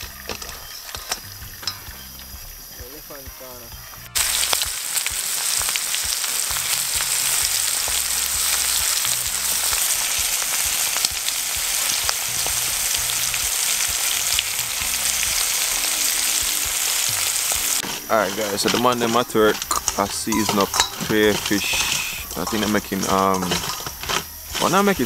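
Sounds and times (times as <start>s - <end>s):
crayfish sizzling in oil: 0.0s - 25.0s.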